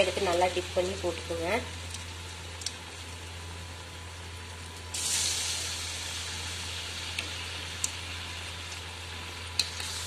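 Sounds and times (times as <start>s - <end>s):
food deep-frying in hot oil: 0.0s - 10.0s.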